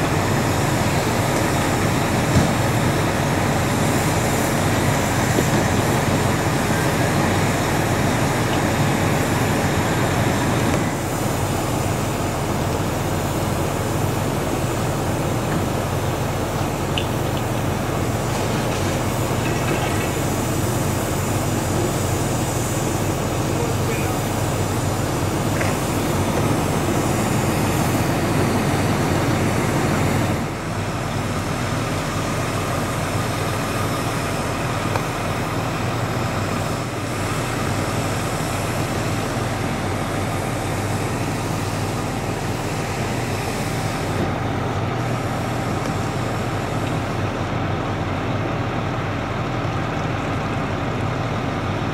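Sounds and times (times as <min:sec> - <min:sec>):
diesel engine droning: 0:00.0 - 0:51.9.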